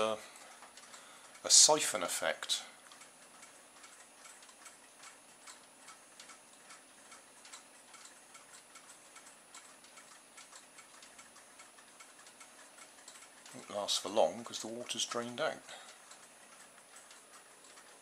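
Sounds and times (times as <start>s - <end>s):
motion toys ticking: 0.0s - 18.0s.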